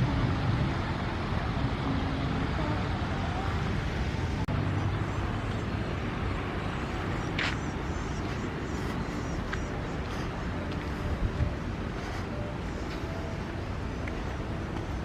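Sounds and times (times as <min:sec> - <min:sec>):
outdoor rumble and hiss: 0:00.0 - 0:15.0
faint distant voices: 0:00.9 - 0:15.0.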